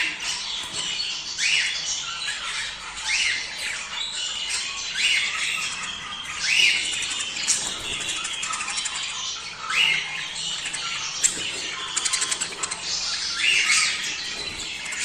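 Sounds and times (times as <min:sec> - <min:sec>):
budgerigars chattering and warbling: 0:00.0 - 0:15.0.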